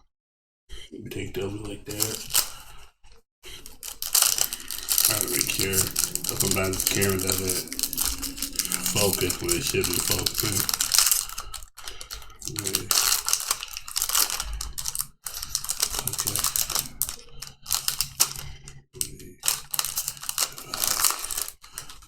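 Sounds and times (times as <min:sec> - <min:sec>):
cards and foil wrapper rustling: 0:01.8 - 0:02.7, 0:03.5 - 0:18.6, 0:19.4 - 0:22.0.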